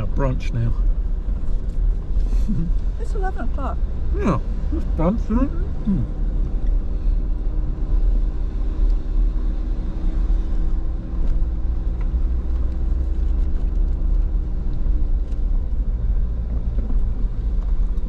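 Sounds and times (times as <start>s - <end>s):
engine and tyre rumble: 0.0s - 18.0s.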